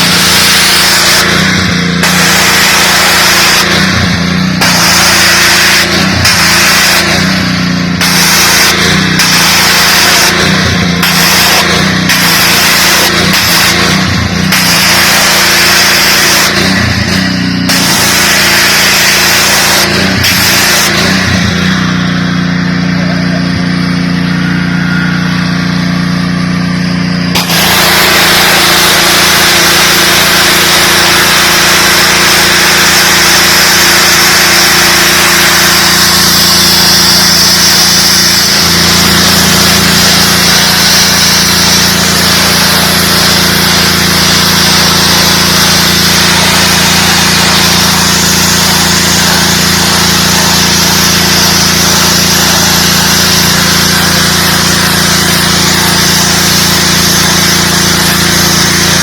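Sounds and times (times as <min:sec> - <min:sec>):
high-pressure water jet hissing: 0:00.0 - 0:22.0, 0:27.3 - 0:59.0
pressure washer engine running: 0:00.0 - 0:59.0.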